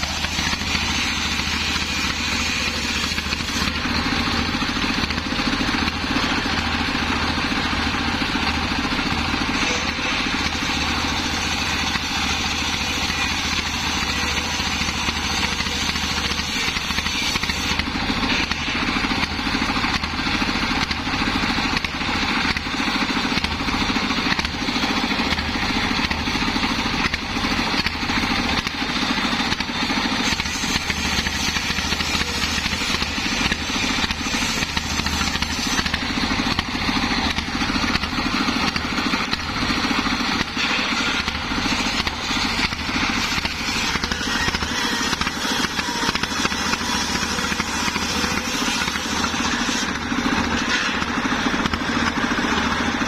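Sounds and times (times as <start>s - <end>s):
circular saw cutting log: 0.0s - 53.0s
diesel engine running: 0.0s - 53.0s.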